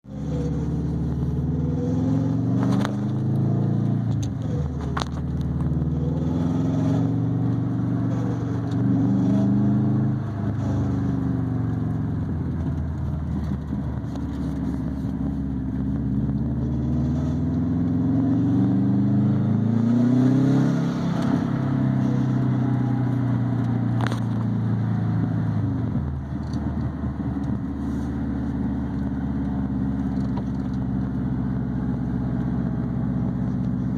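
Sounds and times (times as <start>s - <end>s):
car engine shifting gears: 0.0s - 33.9s.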